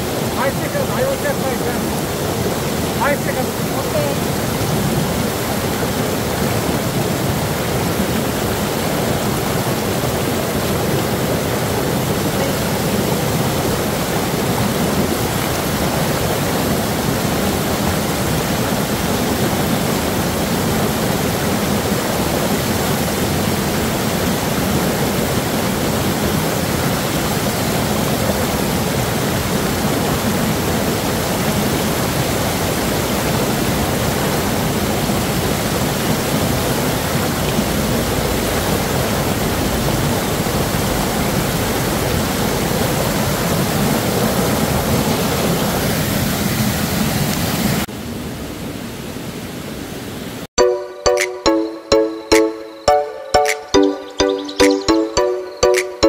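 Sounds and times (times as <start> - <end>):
river water splashing over boulders: 0.0 - 47.8.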